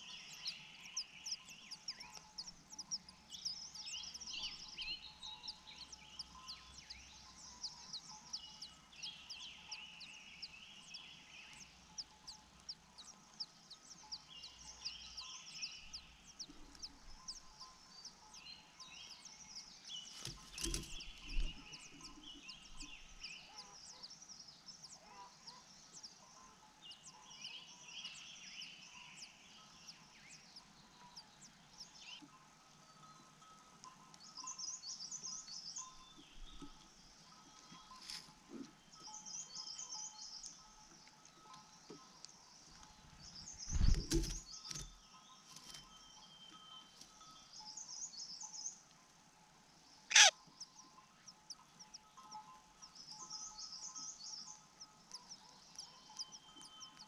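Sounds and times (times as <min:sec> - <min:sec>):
faint bird chirps: 0:00.0 - 0:48.8, 0:50.0 - 0:57.0.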